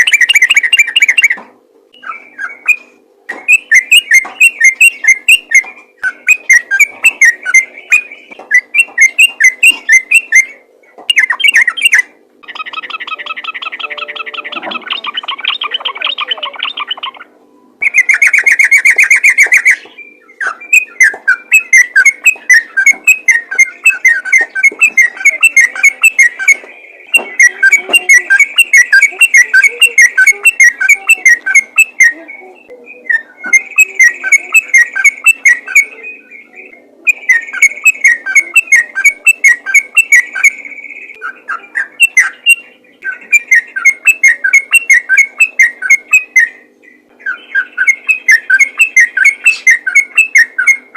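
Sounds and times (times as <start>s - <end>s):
faint steady hum: 0.0s - 50.9s
bird singing whistled notes: 2.0s - 50.9s.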